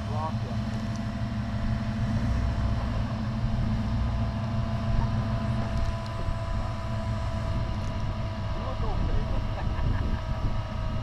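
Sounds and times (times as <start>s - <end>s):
vehicle engine running at low revs: 0.0s - 11.0s.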